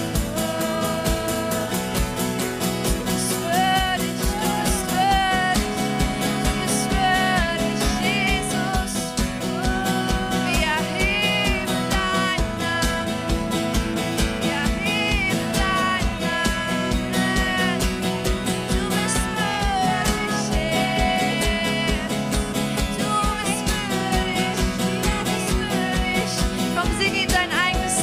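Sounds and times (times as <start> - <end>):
steady drum beat: 0.0 - 28.0
worship band playing: 0.0 - 28.0.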